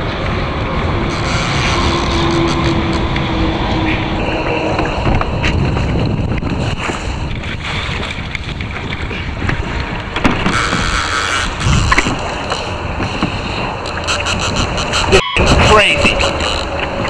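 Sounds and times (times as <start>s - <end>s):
water slapping and splashing: 0.0s - 17.0s
wind buffeting microphone: 0.0s - 17.0s.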